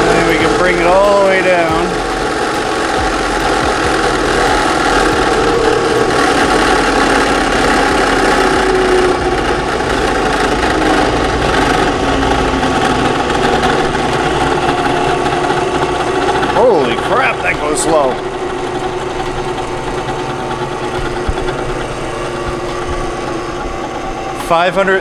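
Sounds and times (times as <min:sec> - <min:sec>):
drill press motor humming: 0:00.0 - 0:25.0.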